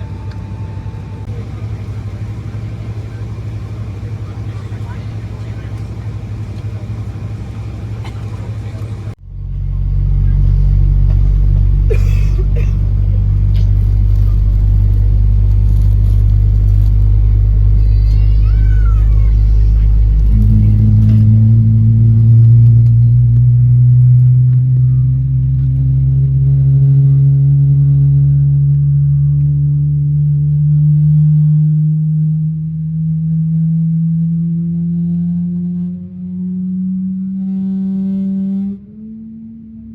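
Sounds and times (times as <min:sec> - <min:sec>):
low engine and airframe rumble: 0:00.0 - 0:39.9.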